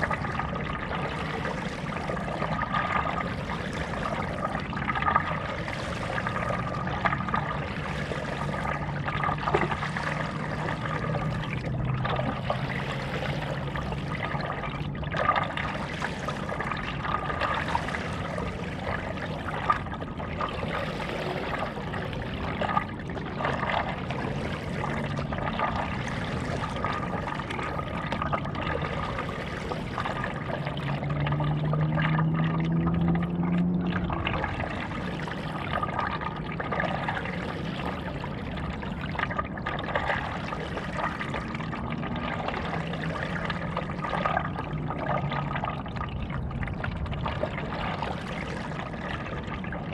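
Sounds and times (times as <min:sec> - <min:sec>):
low steady hum: 0:00.0 - 0:49.9
paddle strokes through water: 0:00.0 - 0:49.9.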